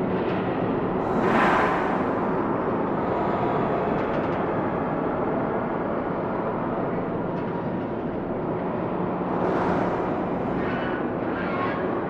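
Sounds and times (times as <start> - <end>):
dull wash of noise: 0.0 - 12.0.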